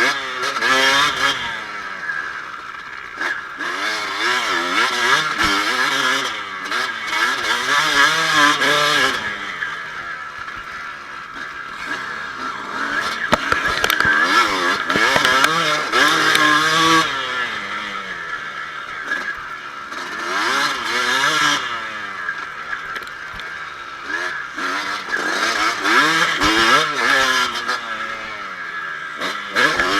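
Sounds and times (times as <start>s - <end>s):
motocross engine revving: 0.0s - 29.9s.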